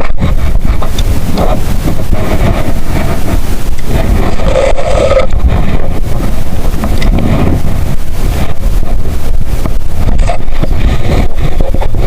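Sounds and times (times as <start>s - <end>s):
sea water washing: 0.0s - 12.0s
wind buffeting microphone: 0.0s - 12.0s.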